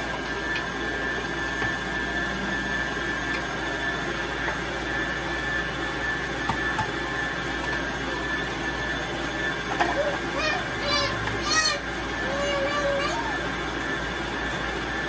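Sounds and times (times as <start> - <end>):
stand mixer whining: 0.0 - 15.0.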